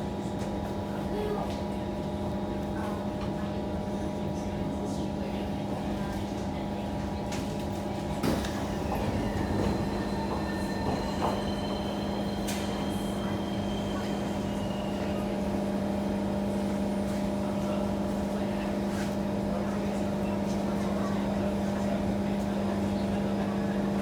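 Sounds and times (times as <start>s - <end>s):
train electrical hum and rail rumble: 0.0s - 24.0s.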